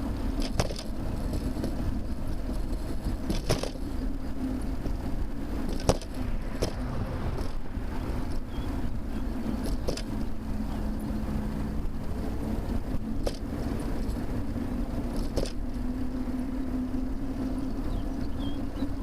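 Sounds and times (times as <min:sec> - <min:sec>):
car engine and tyre hum: 0:00.0 - 0:19.0
road traffic rumble: 0:00.0 - 0:19.0.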